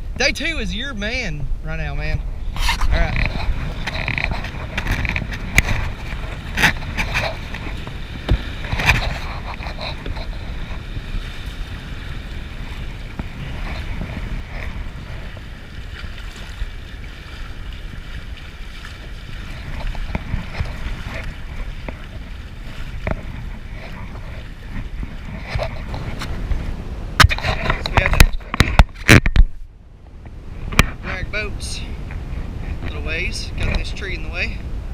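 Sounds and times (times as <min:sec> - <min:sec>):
river water around kayak: 0:00.0 - 0:34.9
wind buffeting microphone: 0:00.0 - 0:34.9.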